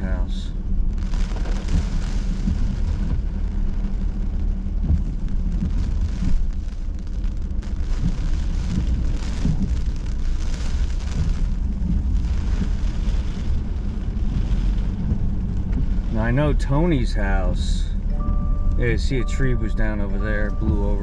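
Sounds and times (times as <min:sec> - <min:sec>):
car engine and tyres on wet road: 0:00.0 - 0:21.0
rain beating on car: 0:00.0 - 0:21.0.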